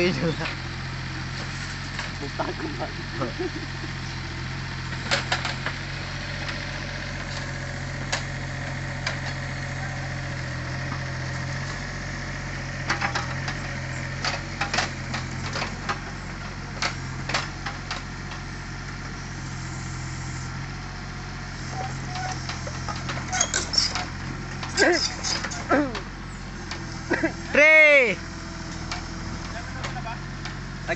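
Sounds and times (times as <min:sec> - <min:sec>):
excavator engine running: 0:00.0 - 0:30.9.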